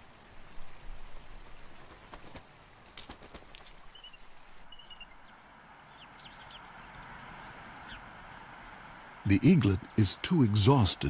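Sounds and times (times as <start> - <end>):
steady outdoor background hiss: 0.0 - 11.0.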